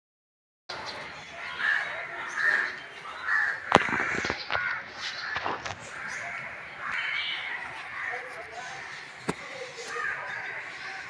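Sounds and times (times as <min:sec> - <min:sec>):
crow cawing: 0:01.5 - 0:11.0.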